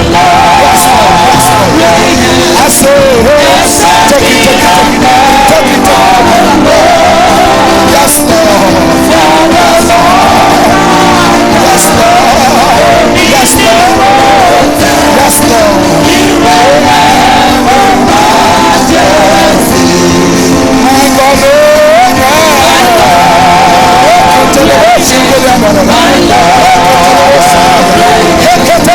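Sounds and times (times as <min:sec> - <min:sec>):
person singing gospel: 0:00.0 - 0:28.9
sustained backing instruments: 0:00.0 - 0:28.9.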